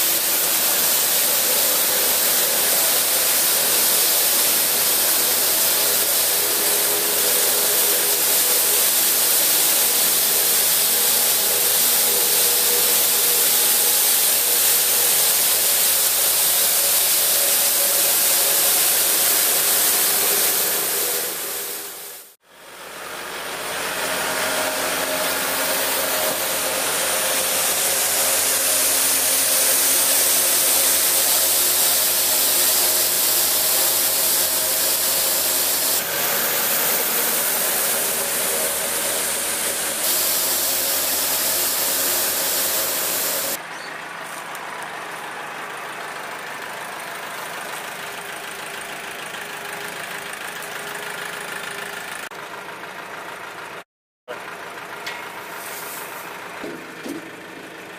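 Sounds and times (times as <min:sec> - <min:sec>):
sweeper brush hissing on concrete: 0:00.0 - 0:43.6, 0:46.2 - 0:52.3, 0:55.2 - 0:57.2
tractor engine running: 0:00.0 - 0:57.9.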